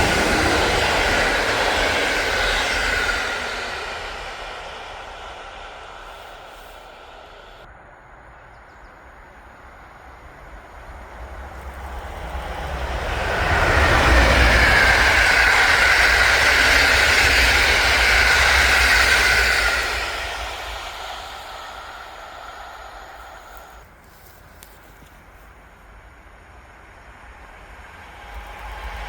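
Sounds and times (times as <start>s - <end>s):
high steady whine: 0.0s - 29.0s
rail noise: 0.0s - 29.0s
train passing with heavy rumble: 0.0s - 29.0s.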